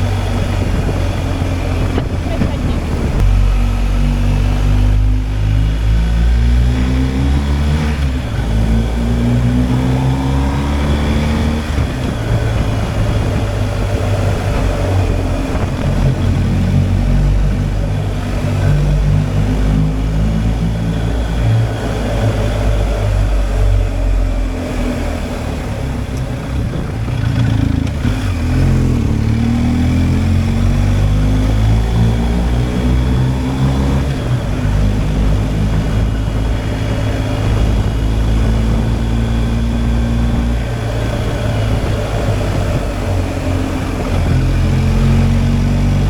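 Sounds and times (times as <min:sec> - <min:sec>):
motorcycle engine running: 0:00.0 - 0:46.0
wind noise: 0:00.0 - 0:46.0.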